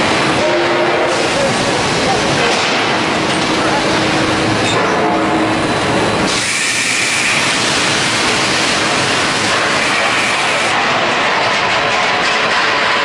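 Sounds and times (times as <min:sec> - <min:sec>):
steam hissing: 0:00.0 - 0:04.8, 0:05.4 - 0:13.0
conveyor machinery rumble: 0:00.0 - 0:13.0.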